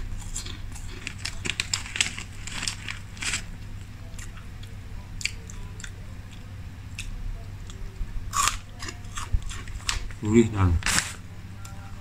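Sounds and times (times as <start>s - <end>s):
low steady hum: 0.0s - 12.0s
crunchy snack being chewed: 0.1s - 10.0s.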